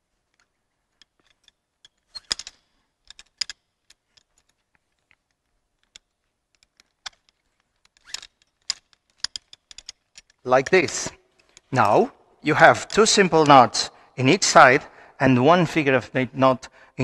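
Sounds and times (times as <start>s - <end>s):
metal harness hardware clicking: 0.2s - 14.0s.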